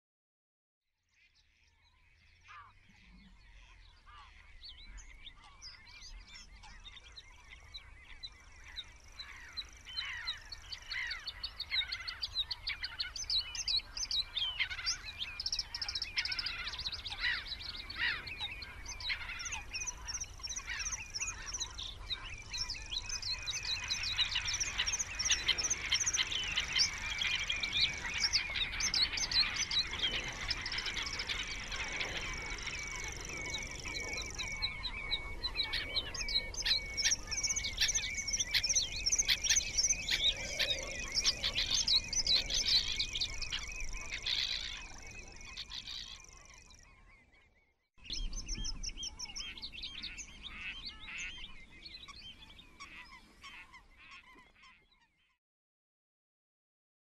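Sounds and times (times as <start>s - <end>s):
small birds chirping: 1.2s - 55.4s.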